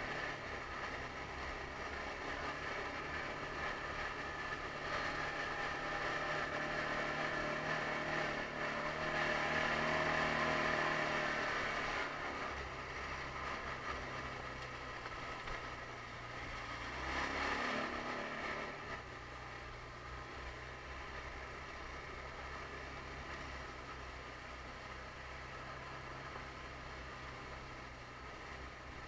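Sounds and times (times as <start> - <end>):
quad engine running: 0.0 - 29.0.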